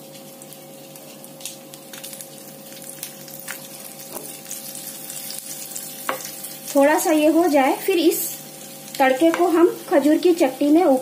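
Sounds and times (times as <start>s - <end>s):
seeds sizzling in oil: 0.0s - 11.0s.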